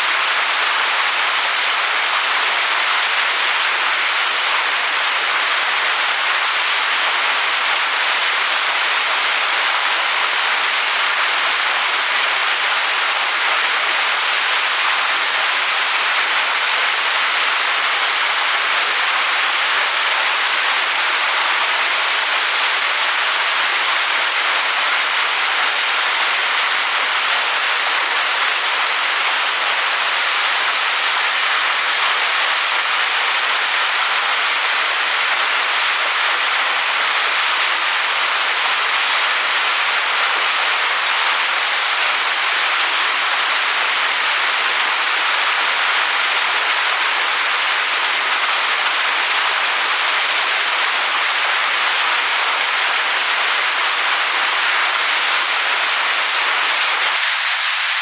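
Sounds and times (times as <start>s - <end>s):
waterfall splashing onto stones: 0.0s - 58.0s.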